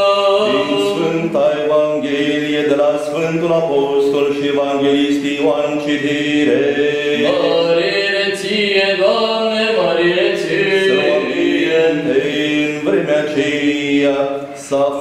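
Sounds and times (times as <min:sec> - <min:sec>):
voices chanting long held notes: 0:00.0 - 0:15.0.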